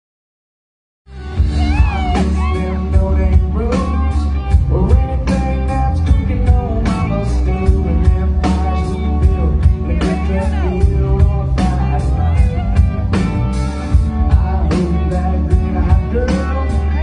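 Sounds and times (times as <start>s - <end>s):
bent electric guitar notes: 1.1s - 17.0s
live rock band playing: 1.1s - 17.0s
man singing: 1.4s - 17.0s.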